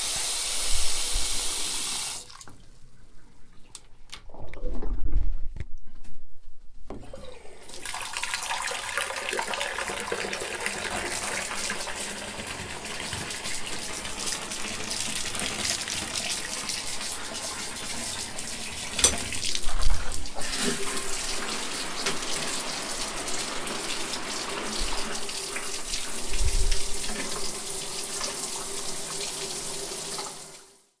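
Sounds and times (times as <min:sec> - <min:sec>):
water running from tap: 0:00.0 - 0:02.6, 0:07.7 - 0:30.8.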